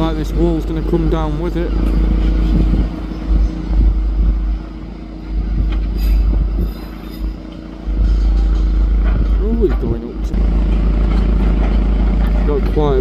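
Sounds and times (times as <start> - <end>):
diesel engine running: 0.0 - 13.0
heavy low rumble: 0.0 - 13.0.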